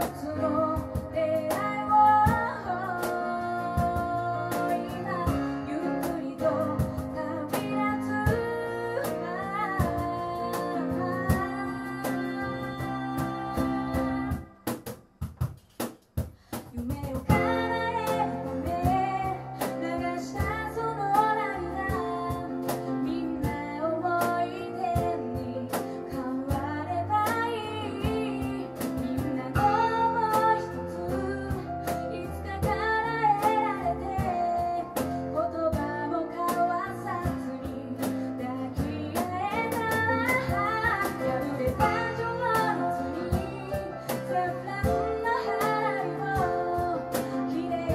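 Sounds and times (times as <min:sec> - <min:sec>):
woman singing: 0:00.0 - 0:14.6, 0:16.7 - 0:47.9
acoustic band playing: 0:00.0 - 0:47.9.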